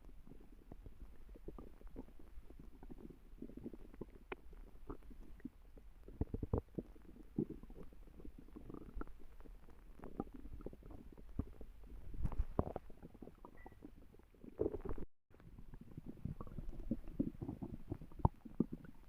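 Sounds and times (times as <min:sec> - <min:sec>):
stomach growling and gurgling: 0:00.0 - 0:19.0.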